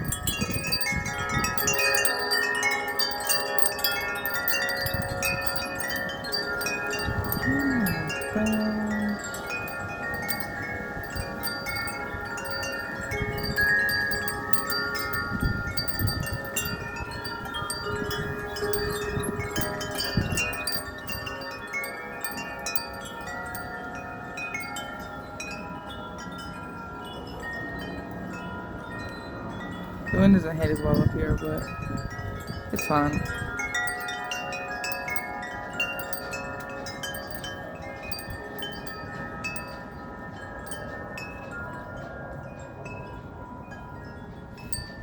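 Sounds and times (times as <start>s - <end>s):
gusty wind: 0.0s - 45.0s
metal wind chimes ringing: 0.0s - 45.0s.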